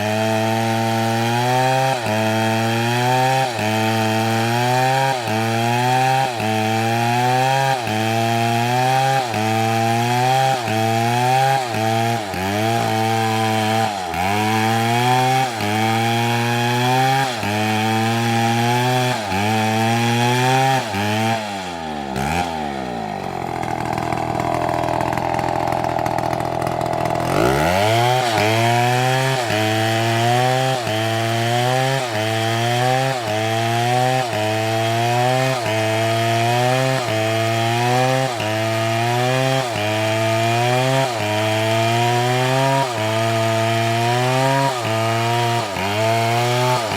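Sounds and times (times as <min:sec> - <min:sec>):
chainsaw cutting: 0:00.0 - 0:46.9.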